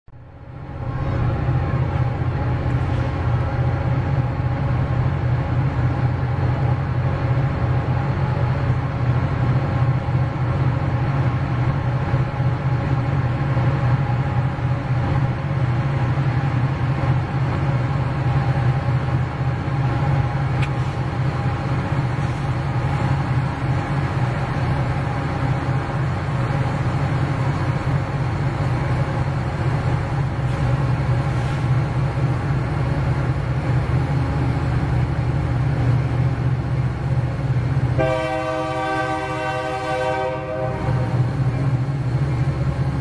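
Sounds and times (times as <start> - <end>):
freight train rumble: 0.1 - 43.0.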